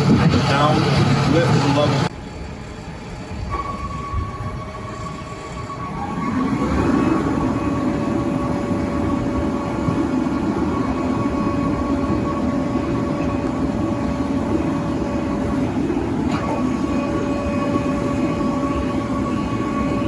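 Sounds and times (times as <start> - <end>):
truck engine and hydraulics whining: 0.0 - 20.0.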